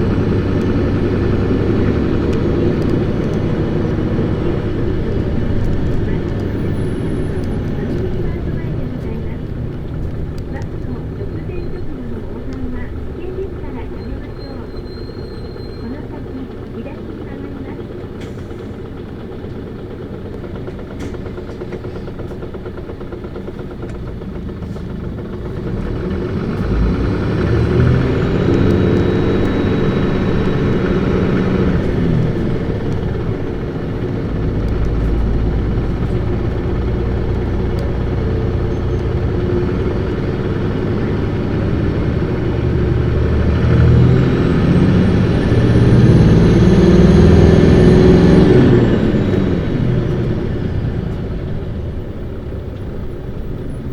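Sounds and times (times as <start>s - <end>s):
bus diesel engine accelerating: 0.0s - 53.9s.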